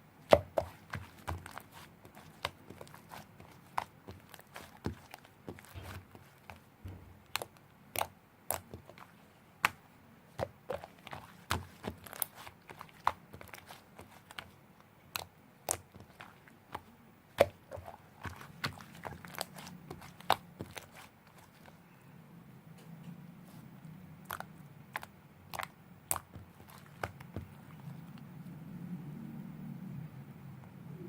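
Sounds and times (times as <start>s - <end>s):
slime clicking and crackling: 0.2s - 21.8s, 24.2s - 28.2s.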